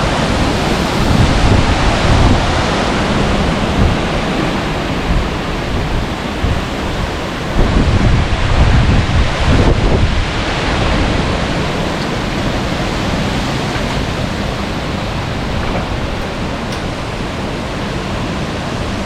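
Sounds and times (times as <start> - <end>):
storm wind rushing: 0.0 - 19.0
wind buffeting microphone: 0.0 - 19.0.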